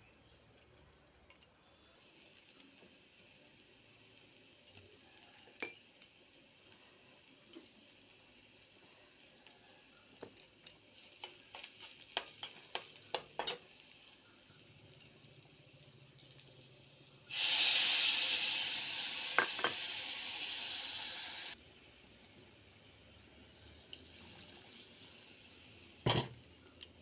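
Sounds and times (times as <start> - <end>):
liquid sizzling in hot pan: 2.0 - 27.0.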